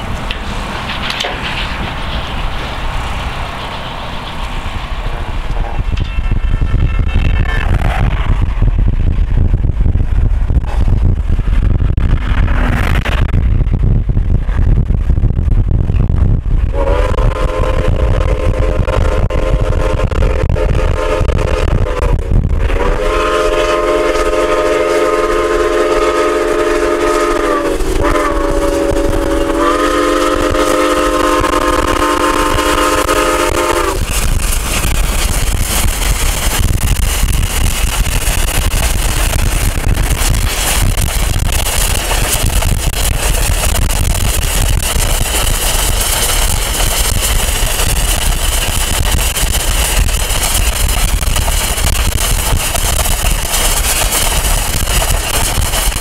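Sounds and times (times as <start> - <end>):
road and wind noise: 0.0 - 24.6, 25.9 - 56.0.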